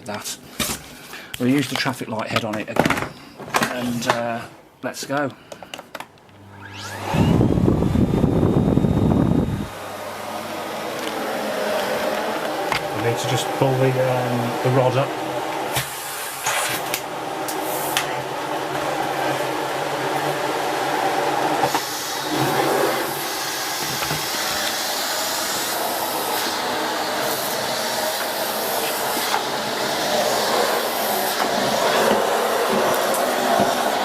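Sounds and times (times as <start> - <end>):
vacuum cleaner running: 5.9 - 34.0.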